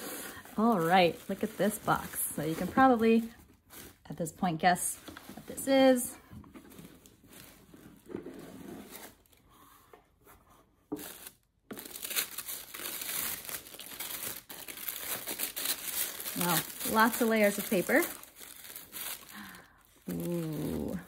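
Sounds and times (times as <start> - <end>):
tissue paper rustling and crinkling: 0.0 - 9.8, 11.0 - 21.0.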